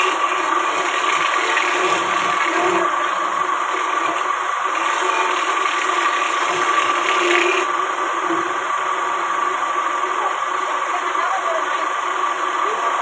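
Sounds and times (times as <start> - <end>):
power tool humming and whirring: 0.0 - 13.0.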